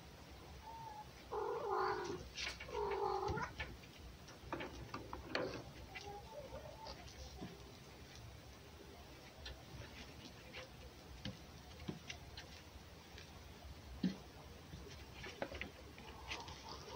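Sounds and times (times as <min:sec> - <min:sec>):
animals scuffling: 0:01.4 - 0:16.9.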